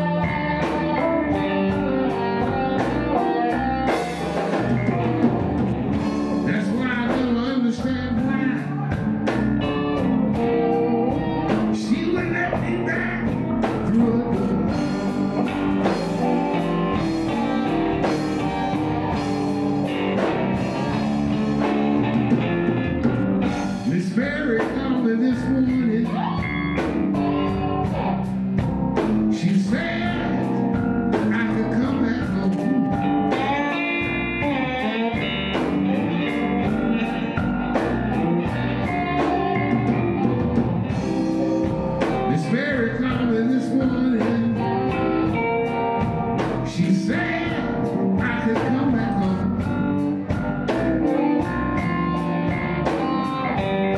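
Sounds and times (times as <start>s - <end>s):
electric guitars: 0.0s - 53.9s
keyboard: 0.0s - 53.9s
steady drum beat: 0.0s - 53.9s.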